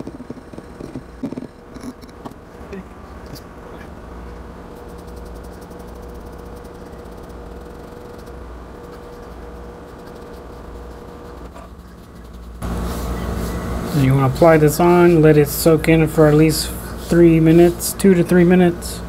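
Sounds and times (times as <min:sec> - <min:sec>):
faint steady whine: 0:00.0 - 0:19.0
low machine hum: 0:00.0 - 0:19.0.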